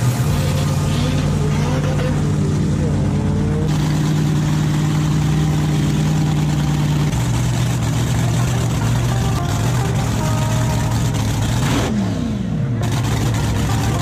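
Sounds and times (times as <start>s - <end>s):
dragster engine idling: 0.0s - 11.9s, 12.5s - 14.0s.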